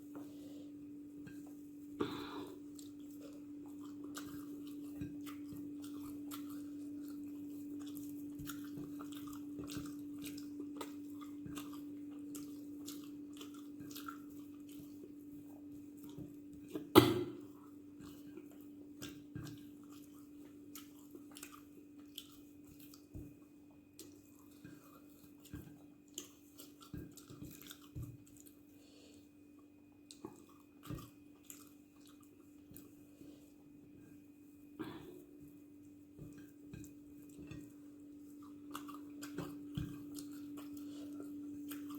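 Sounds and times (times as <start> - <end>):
person chewing: 1.2 - 41.9.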